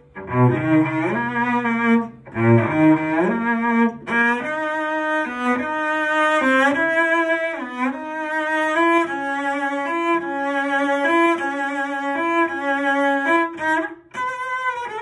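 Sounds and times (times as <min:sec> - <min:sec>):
bowed cello melody: 0:00.0 - 0:15.0.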